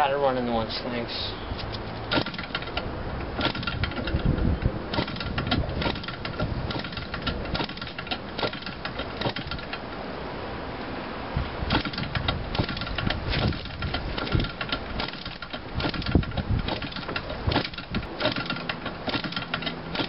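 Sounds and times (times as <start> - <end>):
model engine clicks and pops: 1.6 - 9.8, 11.7 - 20.0.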